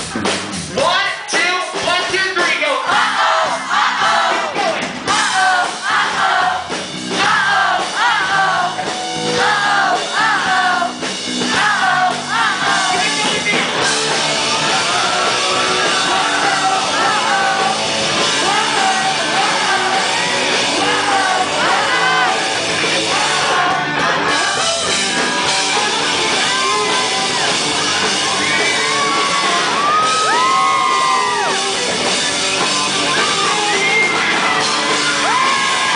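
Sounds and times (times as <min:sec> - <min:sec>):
loud rock music: 0:00.0 - 0:35.9.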